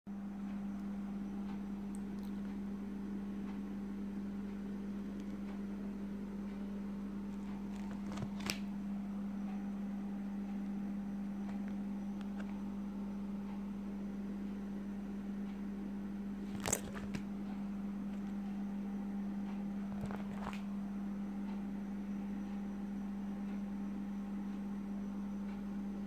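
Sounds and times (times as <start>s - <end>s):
steady low hum: 0.1s - 26.0s.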